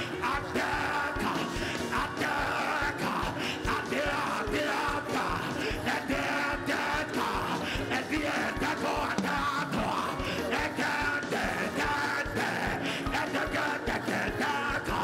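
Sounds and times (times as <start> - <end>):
church band music: 0.0 - 15.0
congregation praying aloud: 0.0 - 15.0
quick drum beat: 0.0 - 15.0.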